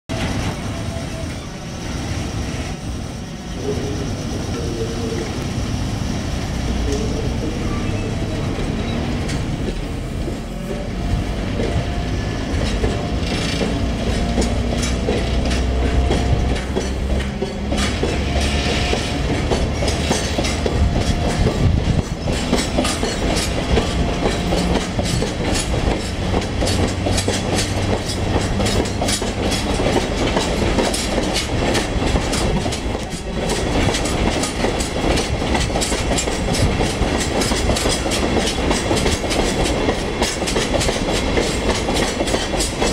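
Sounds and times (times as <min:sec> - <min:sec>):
wheels clacking over rail joints: 0:06.8 - 0:42.9.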